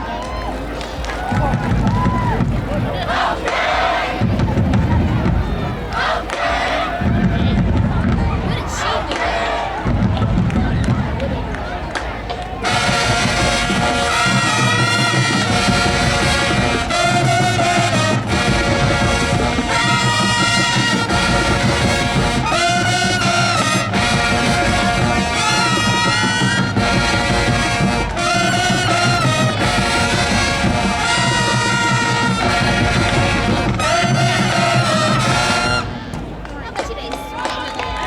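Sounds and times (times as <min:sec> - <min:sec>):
marching band brass and drums: 0:00.0 - 0:38.0.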